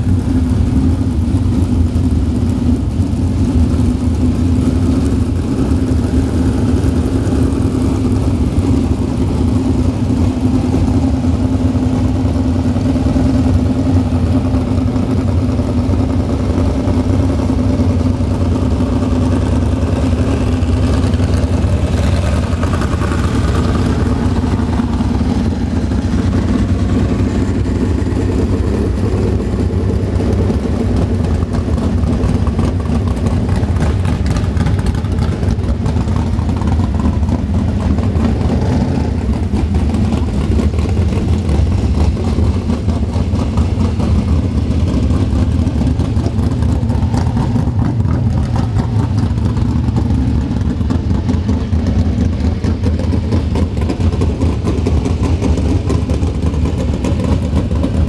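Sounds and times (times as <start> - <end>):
engines droning: 0.0 - 58.0.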